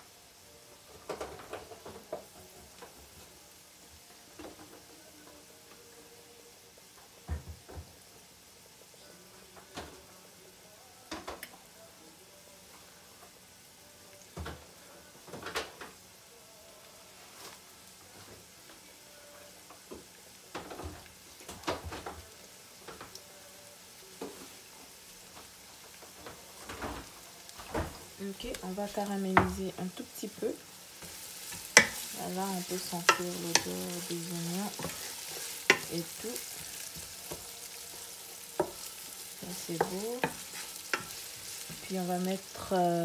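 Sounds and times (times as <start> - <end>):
onions sizzling in oil: 0.0 - 43.0.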